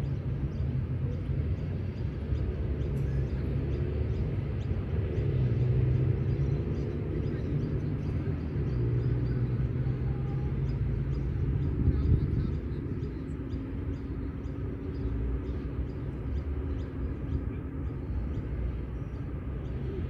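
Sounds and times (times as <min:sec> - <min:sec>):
faint drifting hums: 0:00.0 - 0:20.0
low outdoor rumble: 0:00.0 - 0:20.0.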